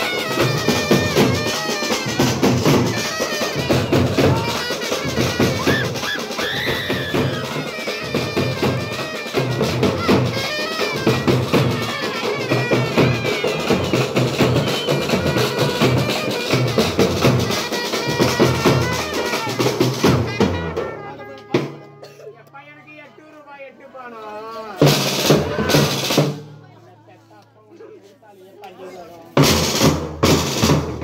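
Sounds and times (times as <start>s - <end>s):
bass and side drums playing: 0.0s - 22.0s, 24.8s - 26.6s, 29.4s - 31.0s.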